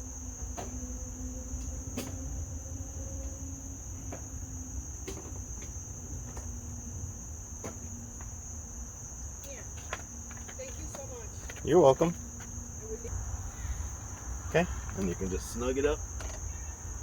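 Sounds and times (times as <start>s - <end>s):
insect trill: 0.0s - 17.0s.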